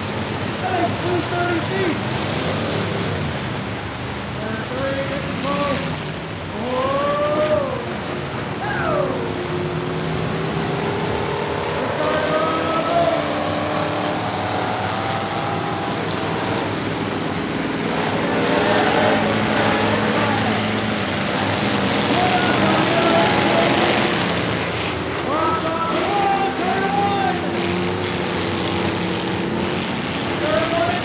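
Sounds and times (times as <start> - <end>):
engines revving: 0.0 - 31.0.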